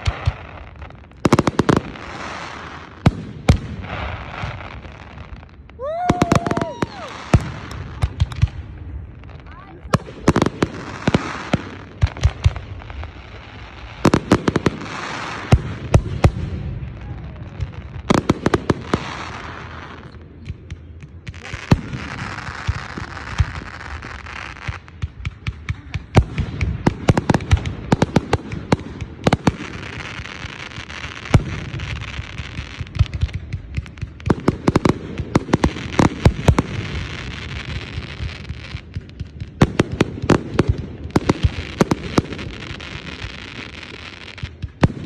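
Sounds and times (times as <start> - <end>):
crackling hiss of fireworks: 0.0 - 45.0
fireworks bursting with sharp bangs: 0.0 - 45.0.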